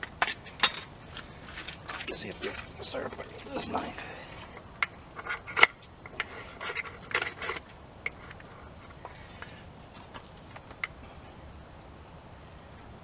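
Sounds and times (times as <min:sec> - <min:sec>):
knife scraping fire-starting rod: 0:00.0 - 0:11.0.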